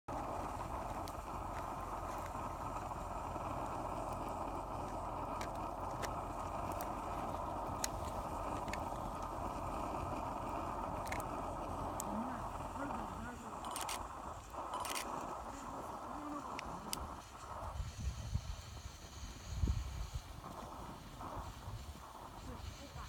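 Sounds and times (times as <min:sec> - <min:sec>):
bonfire pops and crackles: 0:00.1 - 0:23.0
fire rushing noise: 0:00.1 - 0:23.0.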